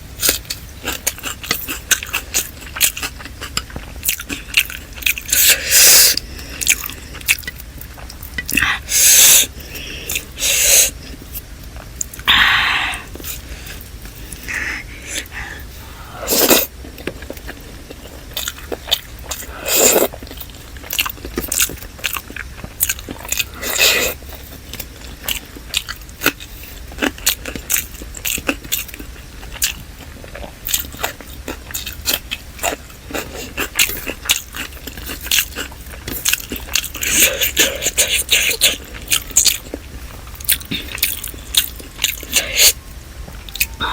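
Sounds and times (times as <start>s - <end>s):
wet chewing and mouth smacks: 0.2s - 12.4s, 13.0s - 43.9s.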